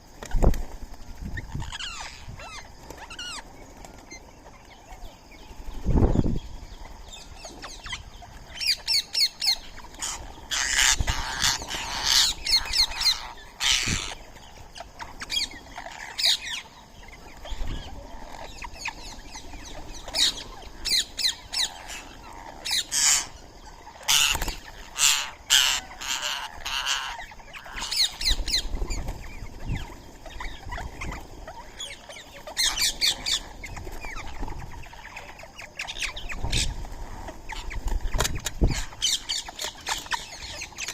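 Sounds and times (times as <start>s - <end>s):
parakeets squawking: 1.4s - 3.4s, 7.6s - 40.9s.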